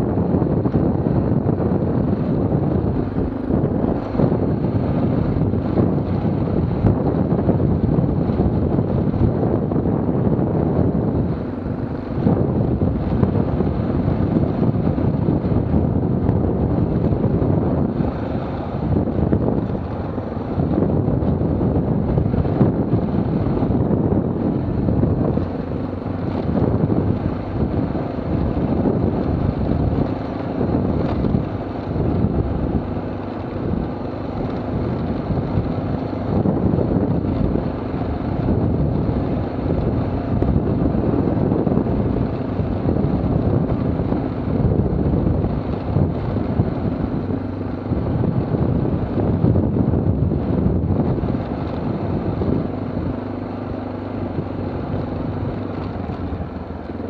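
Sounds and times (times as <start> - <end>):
off-road motorcycle engine: 0.0 - 57.0
wind rumbling on microphone: 0.0 - 57.0.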